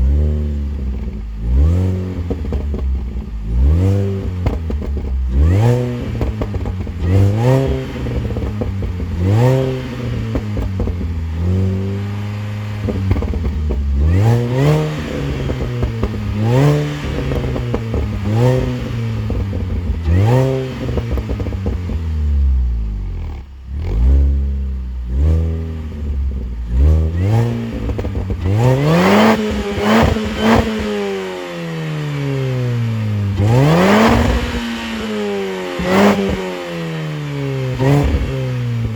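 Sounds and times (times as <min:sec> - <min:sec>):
supercharged car engine revving: 0:00.0 - 0:38.9.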